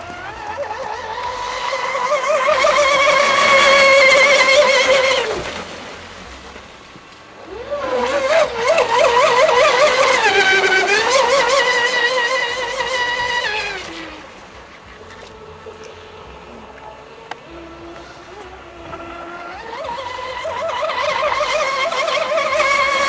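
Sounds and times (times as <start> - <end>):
model boat motor whining: 0.0 - 23.0.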